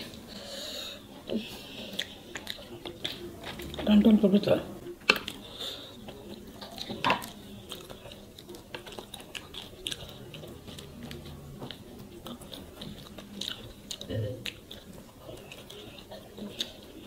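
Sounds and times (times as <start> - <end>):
wet chewing sounds: 0.0 - 17.0.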